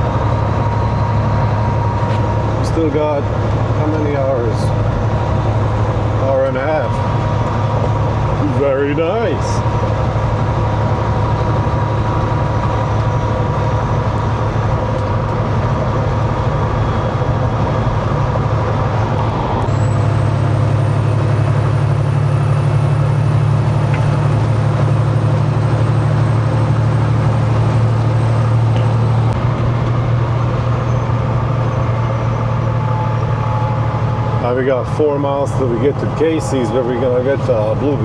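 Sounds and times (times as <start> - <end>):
diesel truck engine: 0.0 - 38.0
road drone: 0.0 - 38.0.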